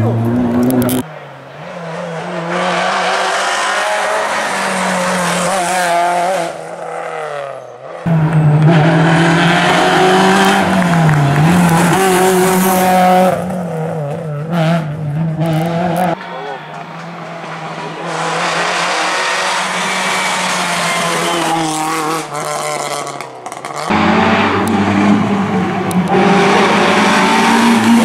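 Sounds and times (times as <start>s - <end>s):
rally car engine revving high: 0.0s - 28.0s.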